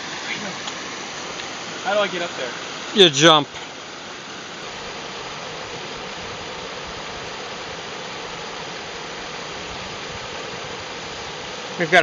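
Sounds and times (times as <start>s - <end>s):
water rushing over a dam: 0.0s - 12.0s.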